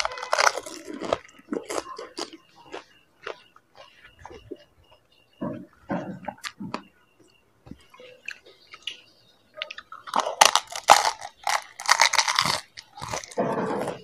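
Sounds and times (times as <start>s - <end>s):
chewing and crunching crisp shells: 0.0s - 6.9s, 7.8s - 14.0s.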